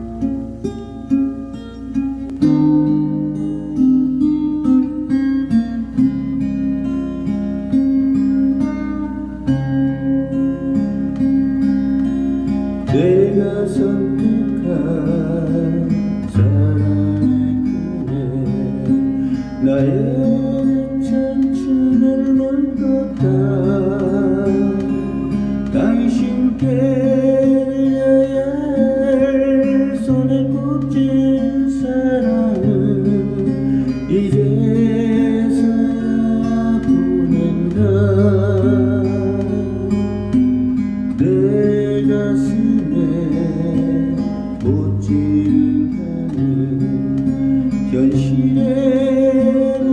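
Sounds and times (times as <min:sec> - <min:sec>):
acoustic guitar: 0:00.0 - 0:49.9.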